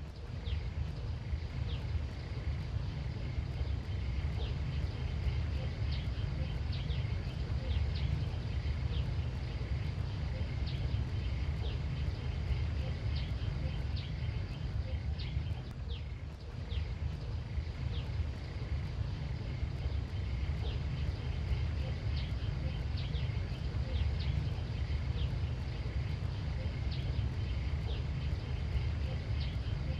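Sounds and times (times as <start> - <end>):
faint high hum: 0.0 - 29.9
low rumble: 0.0 - 29.9.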